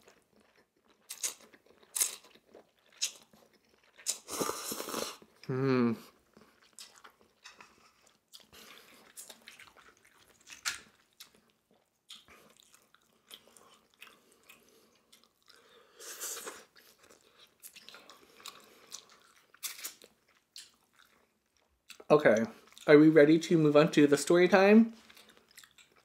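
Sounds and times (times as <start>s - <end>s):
wet chewing sounds: 0.0s - 5.5s, 6.2s - 23.0s, 25.0s - 26.0s.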